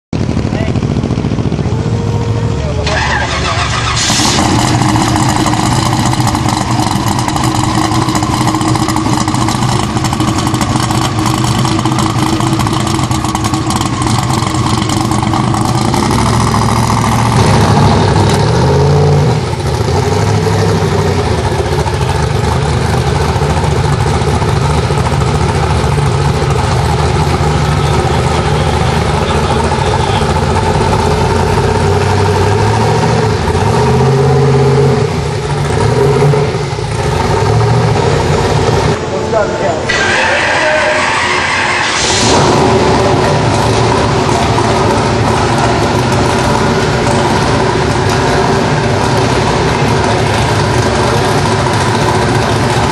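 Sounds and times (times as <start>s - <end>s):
car engine idling: 0.1s - 52.9s.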